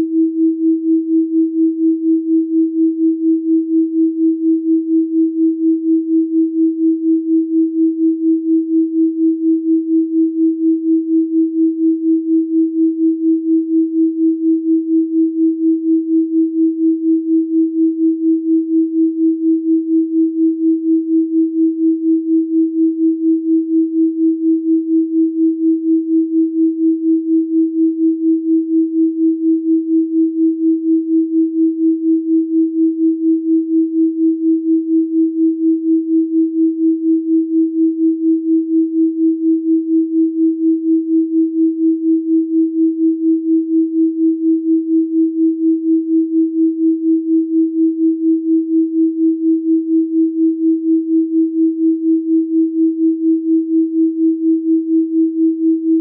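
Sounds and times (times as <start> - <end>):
pulsing sine tone: 0.0 - 56.0.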